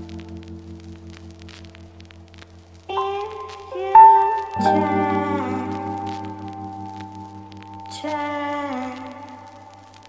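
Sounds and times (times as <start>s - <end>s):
slow music of long held notes: 0.0s - 10.0s.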